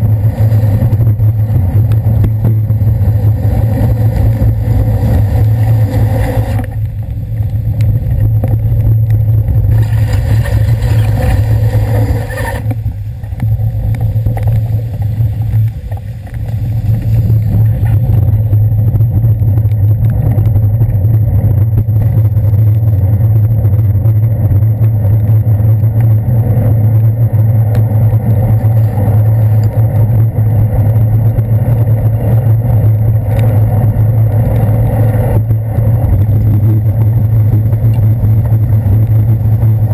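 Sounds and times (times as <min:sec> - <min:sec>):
cars and buses on wet streets: 0:00.0 - 0:39.9
wind and road vibration rumble: 0:00.0 - 0:39.9.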